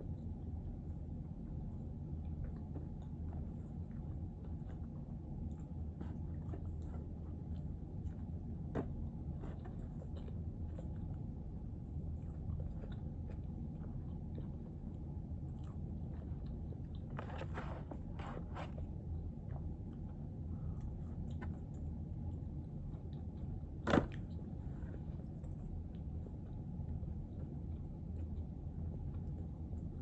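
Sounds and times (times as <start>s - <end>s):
chewing and biting: 0.0s - 30.0s
steady low hum: 0.0s - 30.0s.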